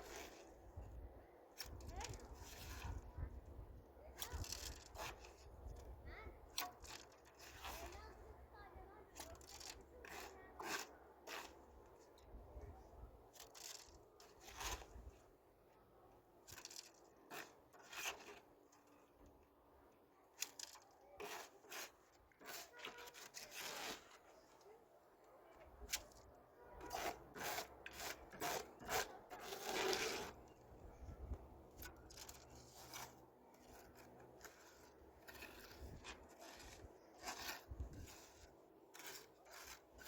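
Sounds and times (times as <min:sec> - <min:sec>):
scraping and rubbing strokes: 0:00.0 - 0:01.0, 0:01.6 - 0:03.5, 0:04.2 - 0:05.9, 0:06.5 - 0:15.3, 0:16.4 - 0:19.3, 0:20.4 - 0:24.9, 0:25.6 - 0:40.0.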